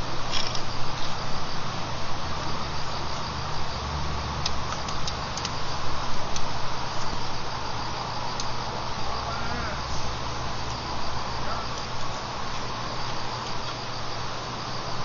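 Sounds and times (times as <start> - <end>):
distant traffic rumble: 0.0 - 15.0
insects chirping: 0.0 - 15.0.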